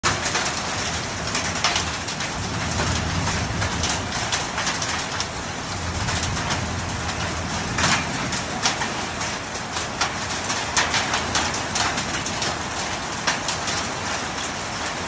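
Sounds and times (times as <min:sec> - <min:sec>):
hail roaring down: 0:00.0 - 0:15.0
hailstones clicking: 0:00.0 - 0:15.0.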